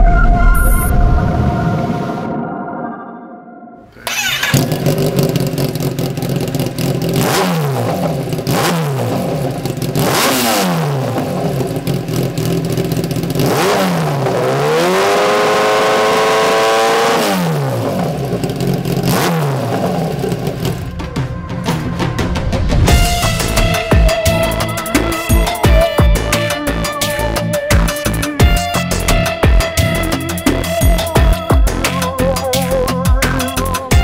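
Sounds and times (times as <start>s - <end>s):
motorcycle engine idling and revving: 4.0s - 34.0s.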